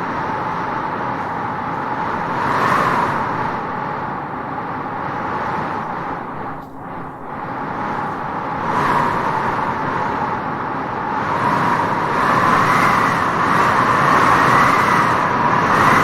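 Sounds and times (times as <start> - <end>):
strong wind rushing: 0.0 - 16.0.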